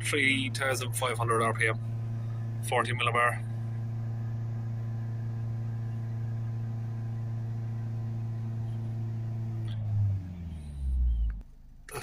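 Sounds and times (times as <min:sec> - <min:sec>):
diesel engine droning at high revs: 0:00.0 - 0:12.0.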